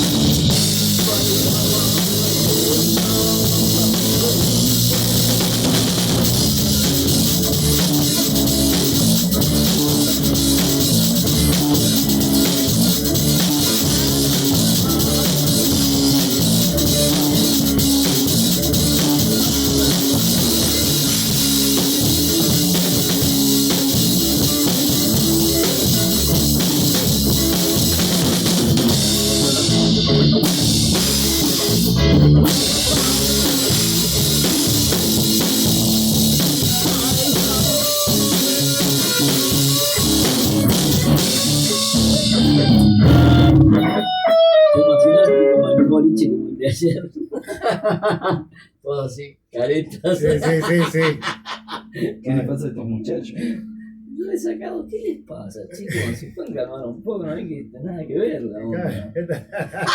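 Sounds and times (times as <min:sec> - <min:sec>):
rock music: 0:00.0 - 0:46.7, 0:50.4 - 0:52.1.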